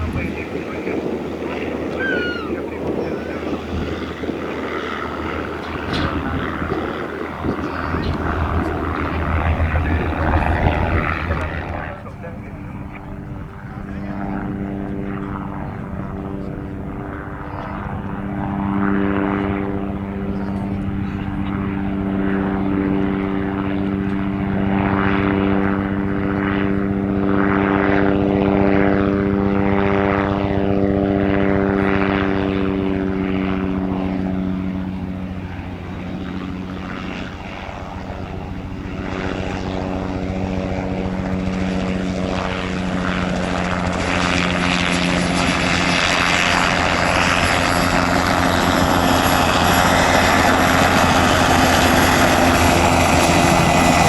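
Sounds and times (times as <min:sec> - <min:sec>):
propeller aircraft engine: 0:00.0 - 0:54.0
second aircraft: 0:00.0 - 0:54.0.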